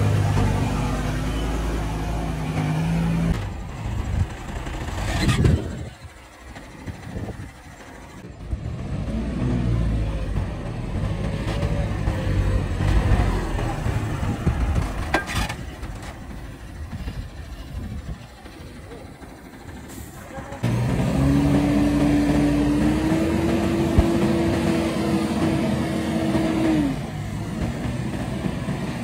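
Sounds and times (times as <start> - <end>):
heavy vehicle engine running: 0.0 - 29.0.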